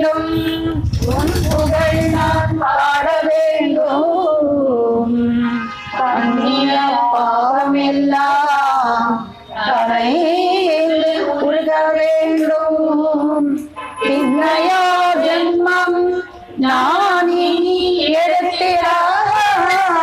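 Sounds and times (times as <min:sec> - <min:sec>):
women singing together: 0:00.0 - 0:20.0.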